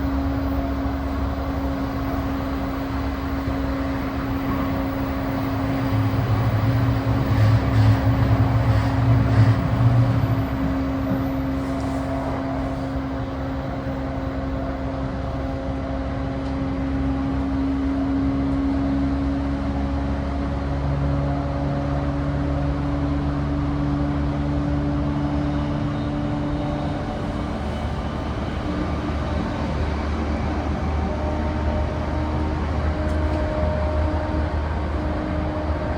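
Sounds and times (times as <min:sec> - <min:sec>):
wheel and rail noise: 0:00.0 - 0:35.9.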